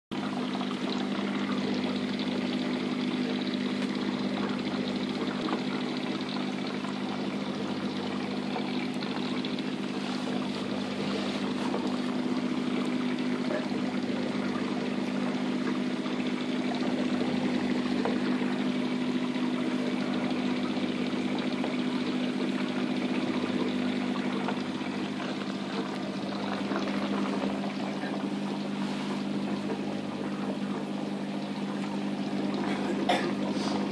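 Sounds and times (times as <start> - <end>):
aquarium filter hum: 0.1 - 33.9
water trickling and splashing: 0.1 - 33.9.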